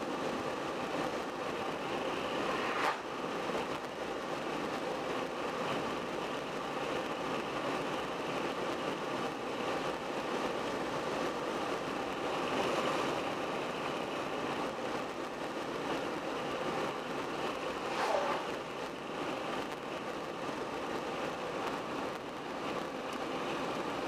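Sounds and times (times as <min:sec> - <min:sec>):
tyre and road noise: 0:00.0 - 0:24.0.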